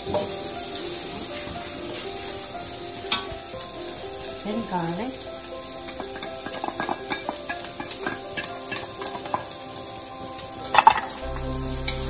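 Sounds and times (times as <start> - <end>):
onions sizzling in a wok: 0.0 - 12.0.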